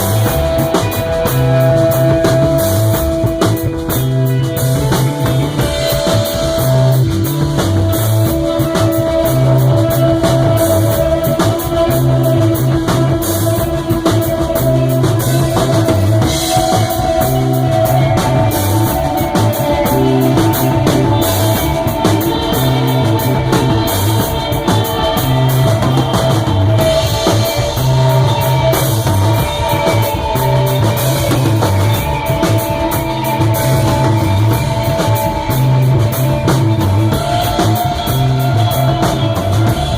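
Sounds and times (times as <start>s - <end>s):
drum kit beat: 0.0s - 39.9s
electric guitar notes: 0.0s - 39.9s
rock band playing live: 0.0s - 39.9s.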